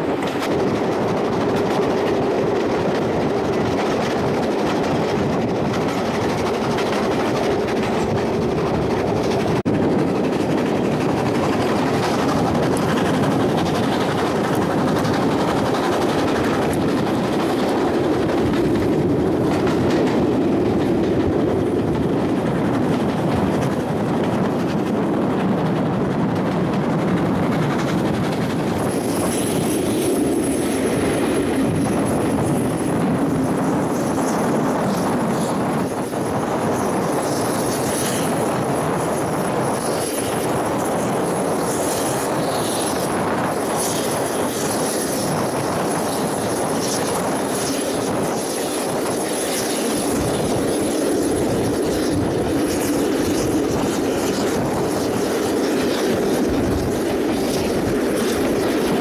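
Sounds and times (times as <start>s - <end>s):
train wind and rail noise: 0.0s - 59.0s.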